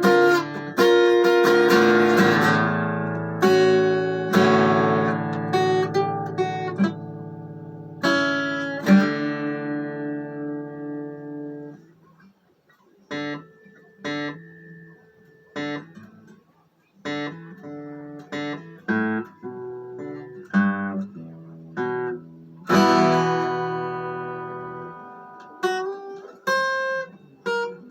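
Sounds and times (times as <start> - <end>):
guitar strummed chord: 0.0 - 11.8, 17.1 - 27.9
guitar notes plucked: 0.0 - 27.9.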